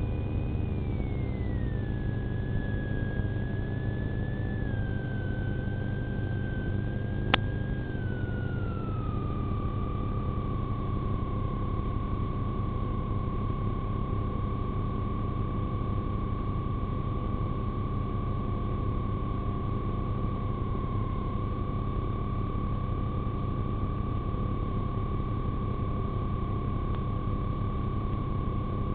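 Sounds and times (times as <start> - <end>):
steady whine: 0.0 - 28.9.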